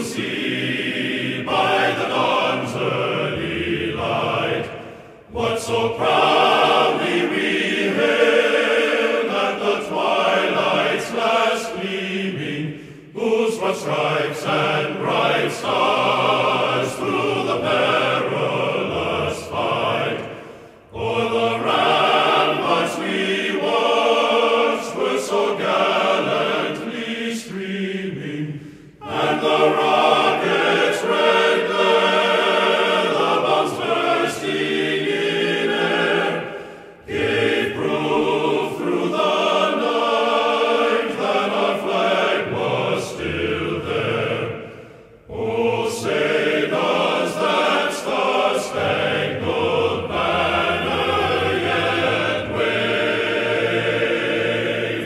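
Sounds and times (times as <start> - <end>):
choral background music: 0.0 - 55.0.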